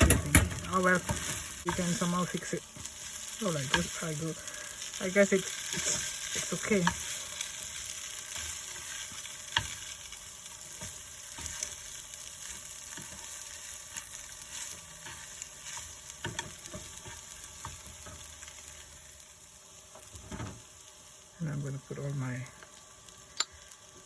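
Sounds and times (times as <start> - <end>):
noodles sizzling in a frying pan: 0.0 - 24.0.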